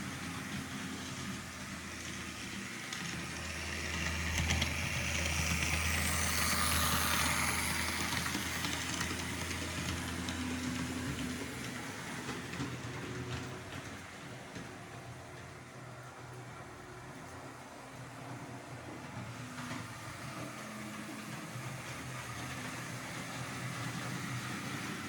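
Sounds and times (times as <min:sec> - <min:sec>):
model train running on track: 0:00.0 - 0:25.0.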